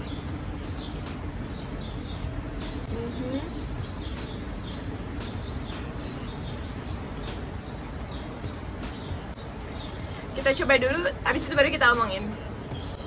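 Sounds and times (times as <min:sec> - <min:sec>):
small bird chirping: 0:00.0 - 0:10.6
low outdoor ambient hum: 0:00.0 - 0:13.0.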